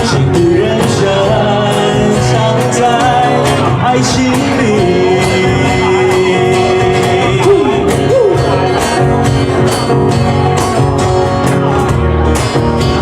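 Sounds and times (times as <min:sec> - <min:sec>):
live band playing: 0:00.0 - 0:13.0
steady drum beat: 0:00.0 - 0:13.0.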